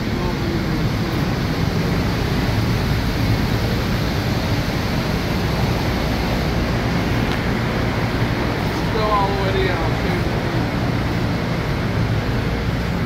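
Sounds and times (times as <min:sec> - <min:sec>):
machinery and ventilation noise: 0:00.0 - 0:13.0.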